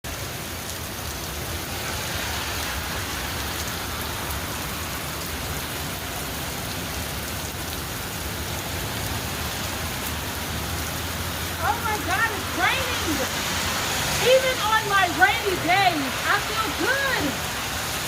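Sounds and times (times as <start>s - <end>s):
steady rain hiss: 0.1s - 18.0s.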